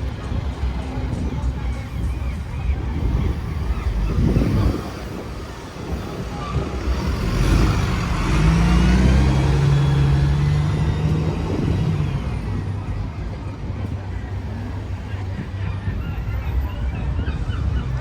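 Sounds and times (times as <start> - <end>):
bus engine driving past: 0.0 - 18.0.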